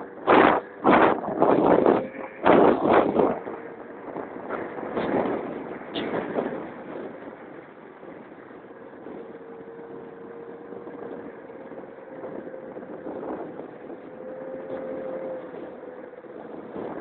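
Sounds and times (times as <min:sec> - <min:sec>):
road and wind noise: 0:00.0 - 0:17.0
scooter engine whine: 0:00.0 - 0:17.0.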